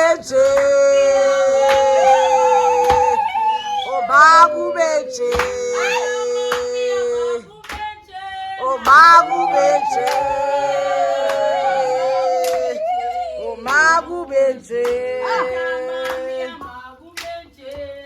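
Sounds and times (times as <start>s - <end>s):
woman singing a song: 0.0s - 18.0s.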